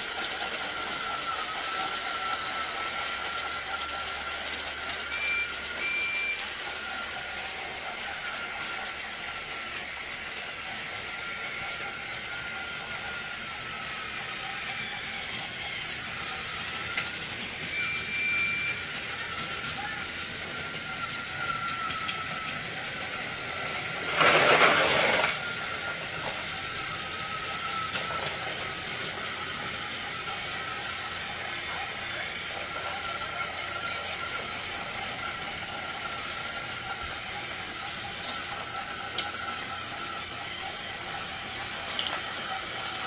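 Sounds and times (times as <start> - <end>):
toy train motor whining: 0.0 - 43.0.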